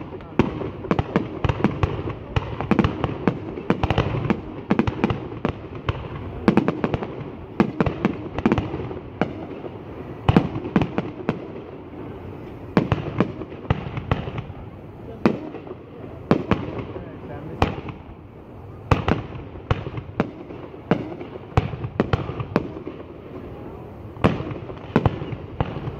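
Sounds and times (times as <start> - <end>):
fireworks bangs and pops: 0.0 - 25.9.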